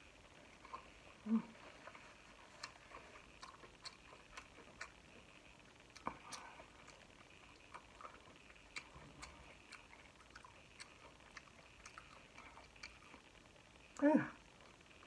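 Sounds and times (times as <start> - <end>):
chewing corn on the cob: 0.0 - 15.0
quiet room hiss: 0.0 - 15.0.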